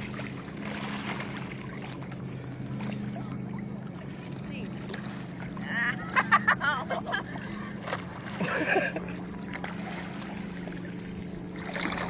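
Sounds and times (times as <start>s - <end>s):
boat motor idling: 0.0s - 12.0s
water splashing and sloshing: 0.0s - 12.0s.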